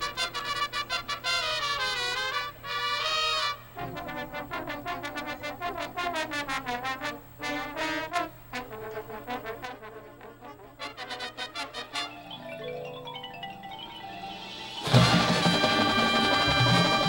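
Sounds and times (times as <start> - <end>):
marching band brass playing: 0.0 - 12.4, 14.3 - 17.0.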